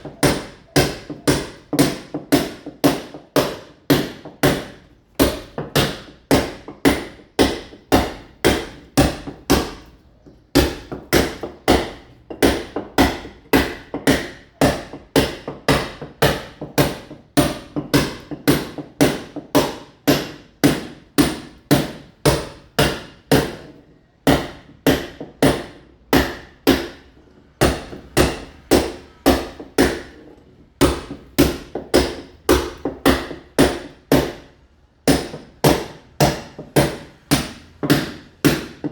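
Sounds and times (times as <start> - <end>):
hammer striking masonry wall: 0.0 - 38.9.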